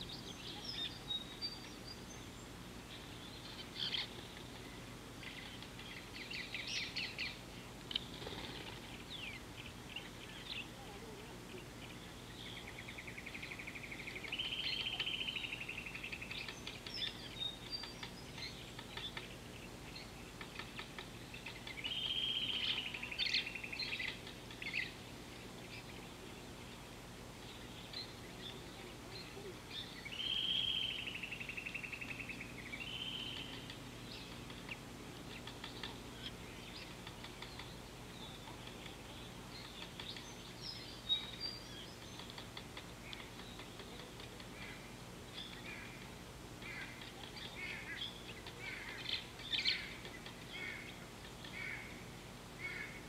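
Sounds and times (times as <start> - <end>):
birds chirping and calling: 0.0 - 53.0
faint background noise: 0.0 - 53.0.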